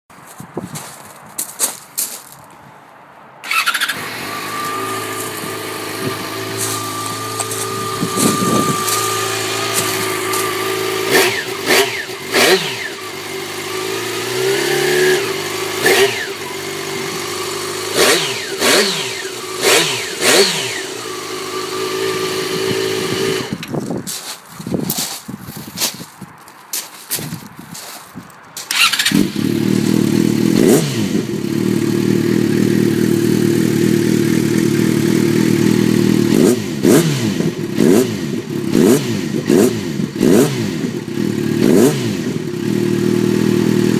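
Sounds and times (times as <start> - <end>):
motorcycle engine starting and revving: 3.4 - 23.8, 28.6 - 43.9.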